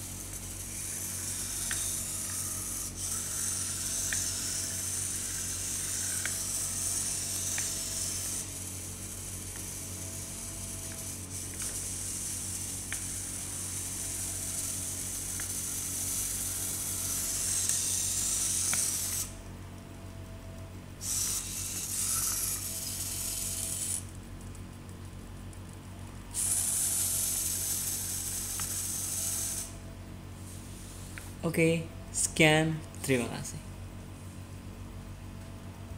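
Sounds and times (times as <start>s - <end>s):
small gear motors whirring: 0.0s - 19.5s, 20.4s - 31.3s.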